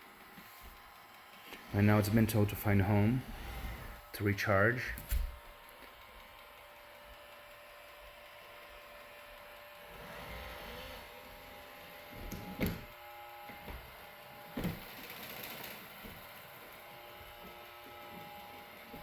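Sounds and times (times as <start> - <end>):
robot vacuum motors whirring: 0.0 - 19.0.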